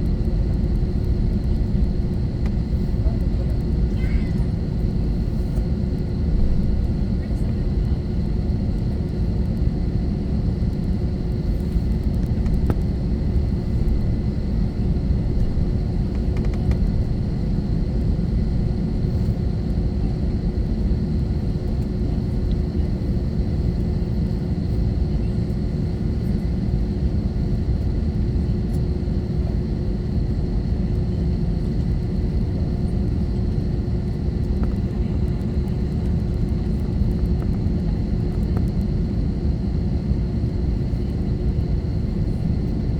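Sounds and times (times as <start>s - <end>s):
airliner cabin engine rumble: 0.0s - 42.9s
faint constant hum: 0.0s - 42.9s.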